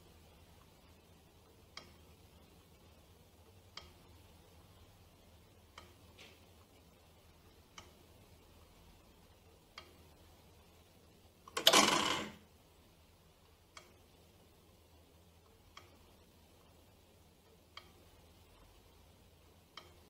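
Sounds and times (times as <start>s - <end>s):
clock ticking: 0.0s - 12.4s, 13.0s - 20.0s.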